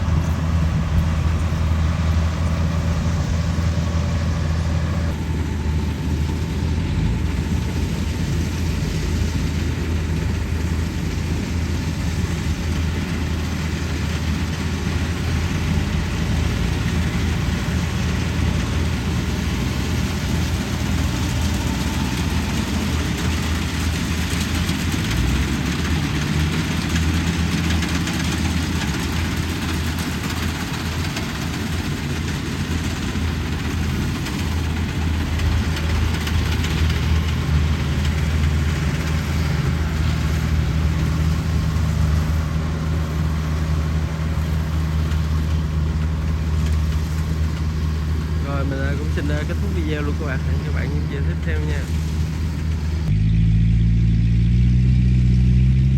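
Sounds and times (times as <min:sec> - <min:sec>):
combine harvester diesel engine: 0:00.0 - 0:55.9.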